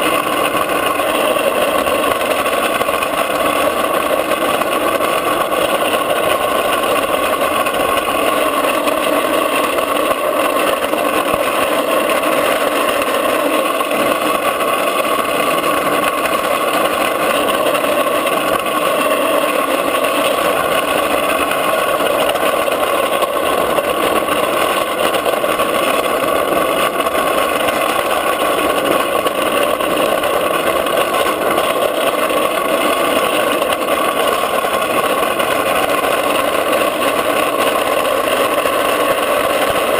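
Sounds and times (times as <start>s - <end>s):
wheels rolling on asphalt: 0.0s - 39.9s.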